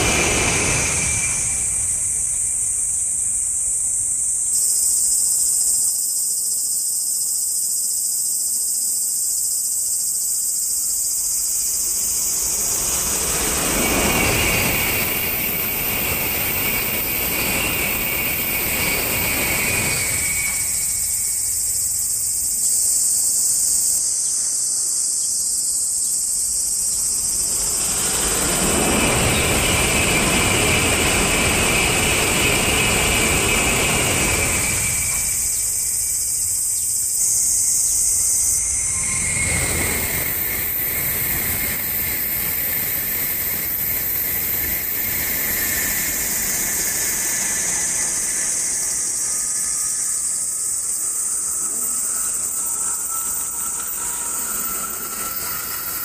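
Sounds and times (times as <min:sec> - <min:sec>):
high-speed train rushing past: 0:00.0 - 0:06.1, 0:10.0 - 0:24.2, 0:26.2 - 0:56.0
cicadas shrilling: 0:00.0 - 0:56.0.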